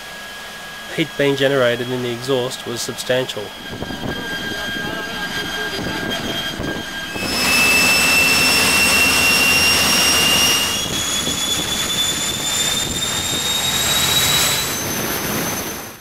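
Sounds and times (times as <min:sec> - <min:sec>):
jet engine roar and whine: 0:00.0 - 0:16.0.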